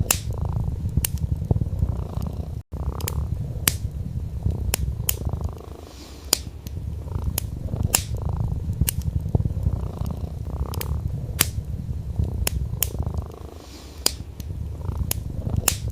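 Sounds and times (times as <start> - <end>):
cat purring: 0.0 - 15.9
wood crackling in fireplace: 0.0 - 15.9.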